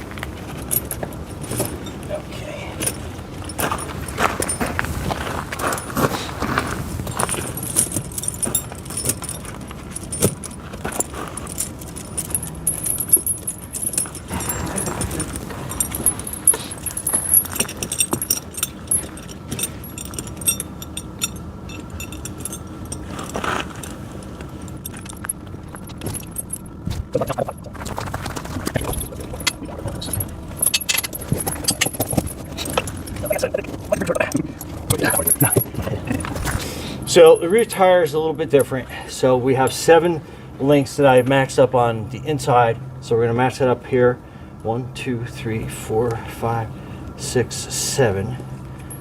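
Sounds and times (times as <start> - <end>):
steel chain links clinking: 0.0 - 39.0, 47.9 - 49.0.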